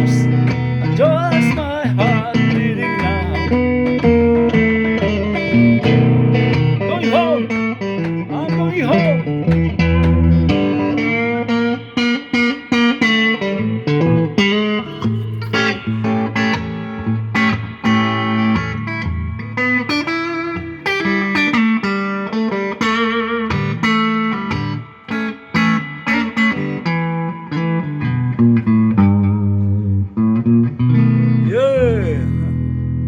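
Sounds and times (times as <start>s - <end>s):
clean electric guitar blues: 0.0s - 33.0s.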